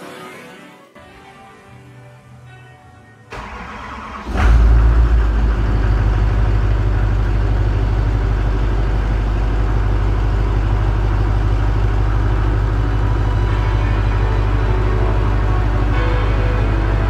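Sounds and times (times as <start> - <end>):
truck engine starting and idling: 3.3 - 17.0.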